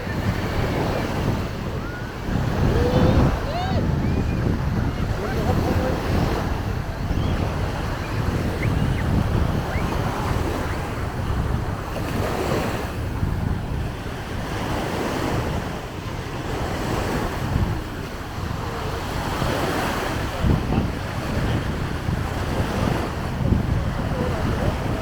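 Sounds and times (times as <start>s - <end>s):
small sea waves breaking on sand: 0.0s - 25.0s
wind rumbling on microphone: 0.0s - 25.0s.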